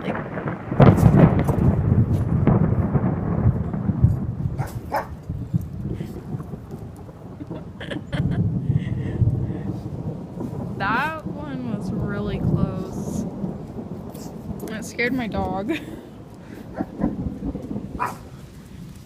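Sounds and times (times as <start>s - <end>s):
thunder crack and rumble: 0.0s - 19.0s.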